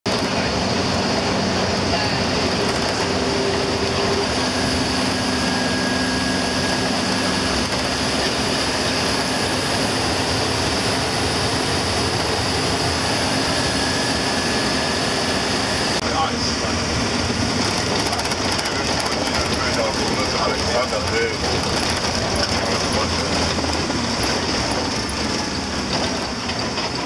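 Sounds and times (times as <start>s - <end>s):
bus interior drone: 0.1s - 27.0s.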